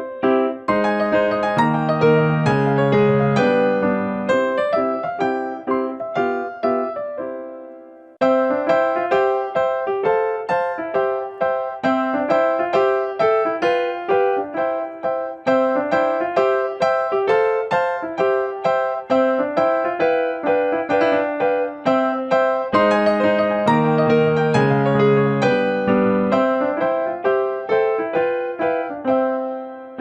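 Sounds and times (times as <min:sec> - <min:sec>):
bright piano melody: 0:00.0 - 0:30.0.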